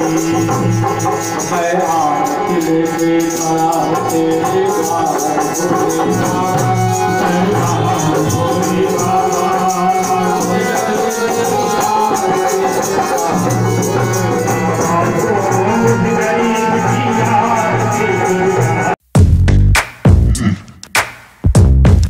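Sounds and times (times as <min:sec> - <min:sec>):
harmonium chords: 0:00.0 - 0:19.0
person singing: 0:00.0 - 0:19.0, 0:20.2 - 0:20.9
rapid jingling shaker beat: 0:00.0 - 0:19.0.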